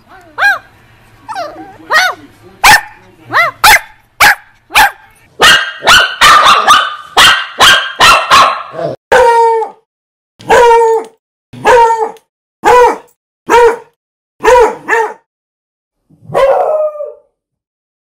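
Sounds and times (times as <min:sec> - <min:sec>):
dog barking: 0:00.4 - 0:00.7, 0:01.4 - 0:09.6, 0:10.4 - 0:15.3, 0:16.2 - 0:17.3.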